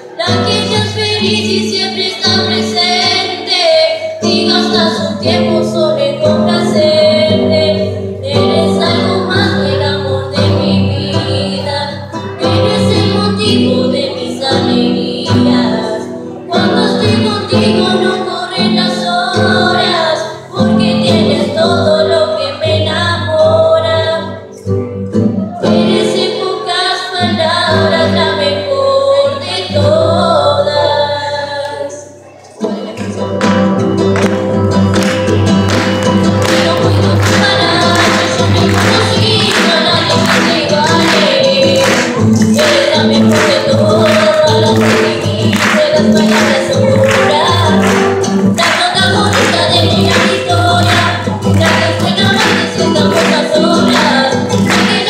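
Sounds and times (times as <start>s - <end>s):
women singing together: 0.0s - 24.6s, 25.4s - 33.8s, 35.8s - 55.0s
acoustic guitar: 0.0s - 55.0s.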